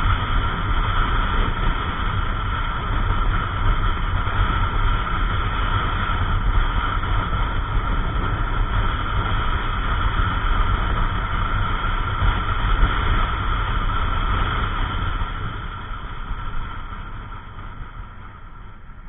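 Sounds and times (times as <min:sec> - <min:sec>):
scooter engine at road speed: 0:00.0 - 0:19.0
wind on microphone: 0:00.0 - 0:19.0.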